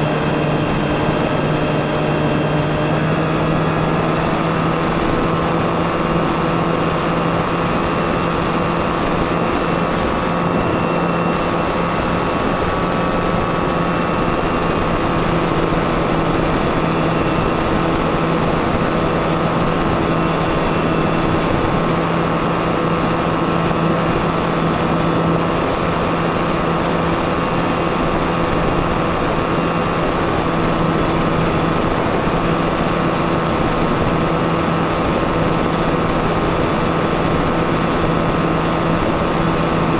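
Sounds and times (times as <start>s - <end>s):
model plane motor droning: 0.0s - 39.9s.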